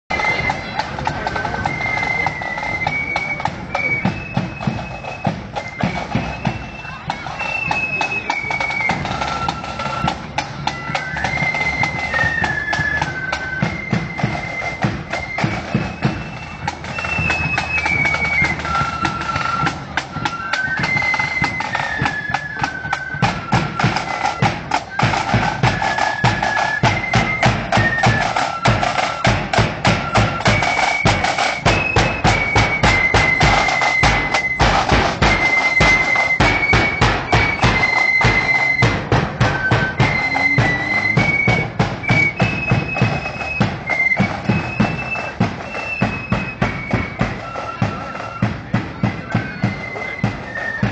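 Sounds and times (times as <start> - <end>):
shrill flutes playing melody: 0.1 - 50.9
side drums: 0.1 - 50.9.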